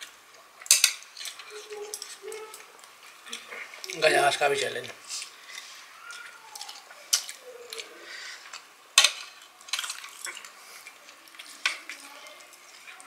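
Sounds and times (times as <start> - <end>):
chopsticks clicking on plates: 0.0 - 4.1, 5.2 - 13.0.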